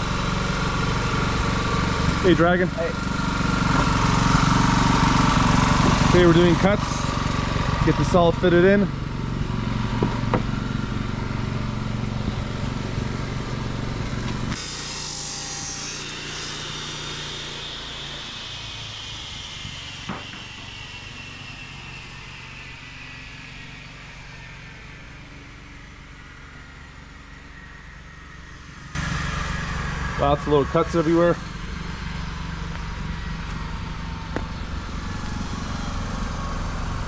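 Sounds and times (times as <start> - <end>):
cut-off saw engine running: 0.0 - 37.0
saw blade winding down whine: 0.0 - 37.0.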